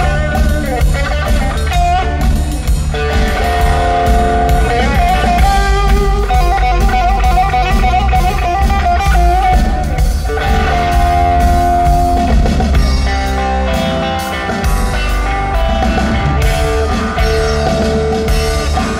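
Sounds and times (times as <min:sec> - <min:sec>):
live rock band playing: 0:00.0 - 0:18.9.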